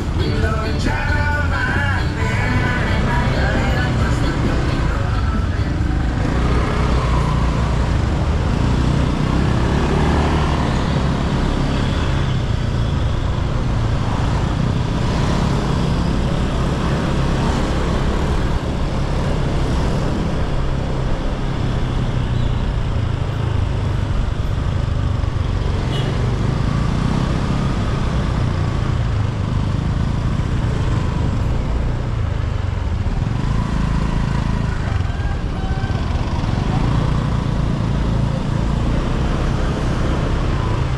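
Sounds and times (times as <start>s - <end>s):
road noise: 0.0s - 40.9s.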